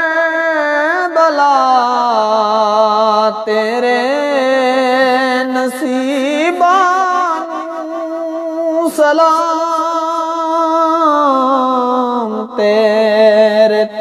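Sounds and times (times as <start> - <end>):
person singing long wordless notes: 0.0 - 14.0.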